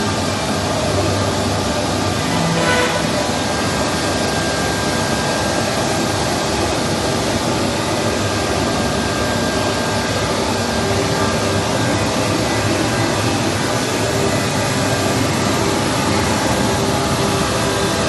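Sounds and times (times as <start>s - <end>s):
woodworking machine whirring: 0.0s - 18.0s.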